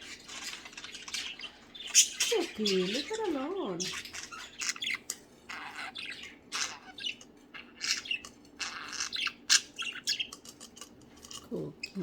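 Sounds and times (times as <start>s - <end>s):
budgies squawking and chirping: 0.0s - 10.9s.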